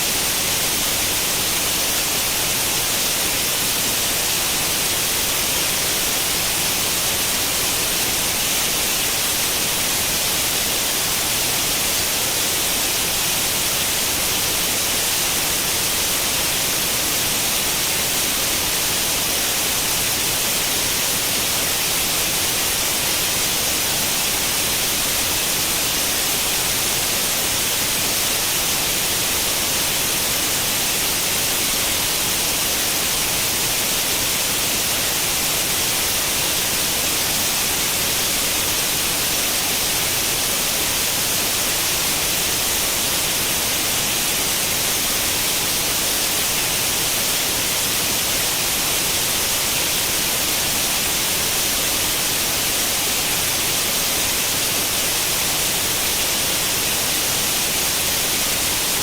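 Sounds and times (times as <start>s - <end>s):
television static hiss: 0.0s - 59.0s.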